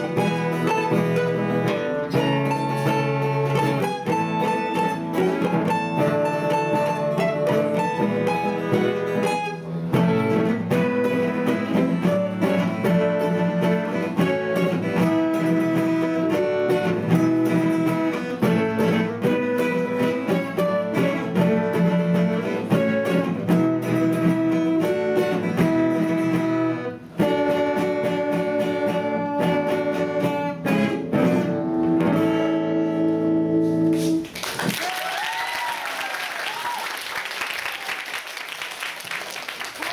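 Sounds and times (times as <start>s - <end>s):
acoustic guitars playing: 0.0s - 34.5s.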